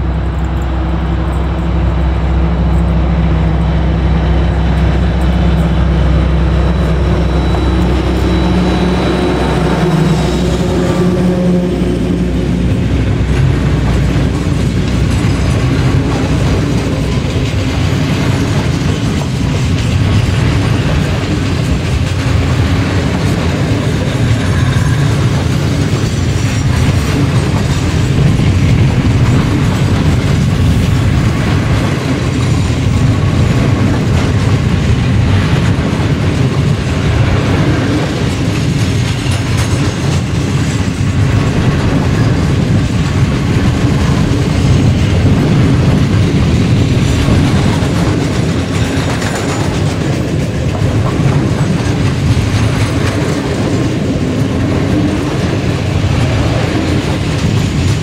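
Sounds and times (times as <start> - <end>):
diesel locomotive engine drone: 0.0 - 58.0
freight wagons rolling: 0.0 - 58.0
wheels clacking over rail joints: 0.0 - 58.0.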